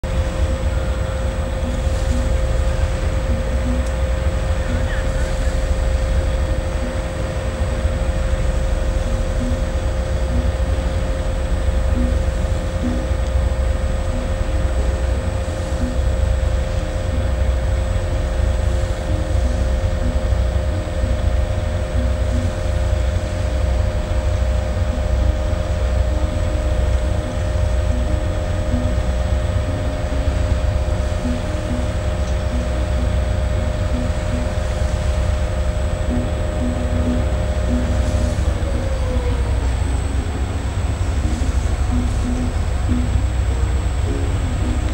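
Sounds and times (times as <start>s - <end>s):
ferry engines rumbling: 0.0s - 44.9s.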